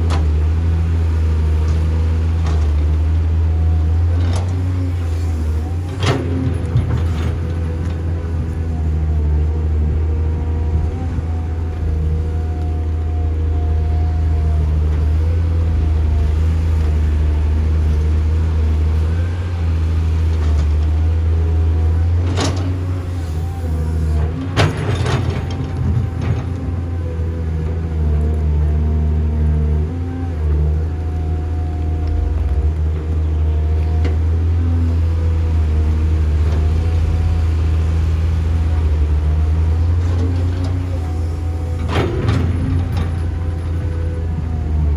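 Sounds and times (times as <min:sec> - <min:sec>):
diesel machinery engine humming: 0:00.0 - 0:44.9.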